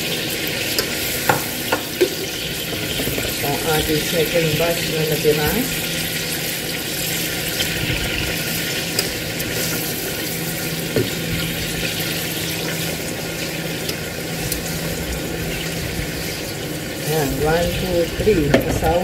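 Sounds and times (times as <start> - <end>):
marinade bubbling: 0.0 - 19.0
meat sizzling in hot oil: 0.0 - 19.0.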